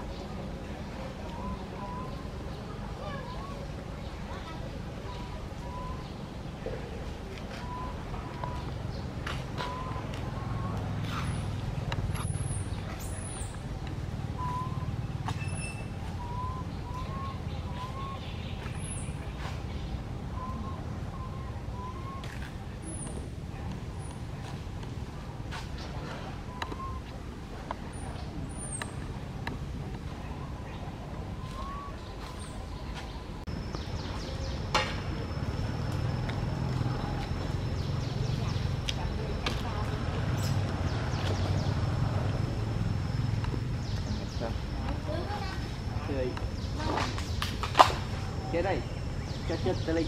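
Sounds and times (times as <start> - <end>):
thin whistled calls: 0.0 - 27.2, 30.0 - 50.0
steady low rumble: 0.0 - 50.0.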